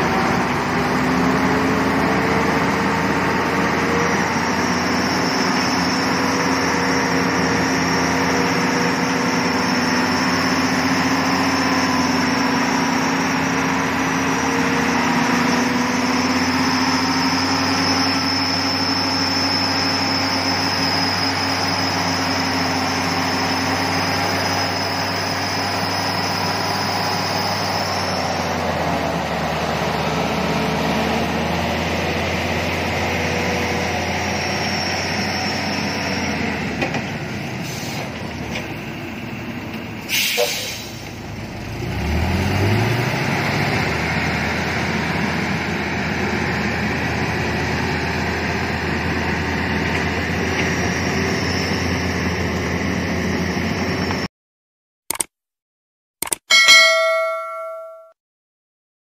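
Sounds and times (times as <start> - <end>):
truck engine pulling hard: 0.0 - 54.3.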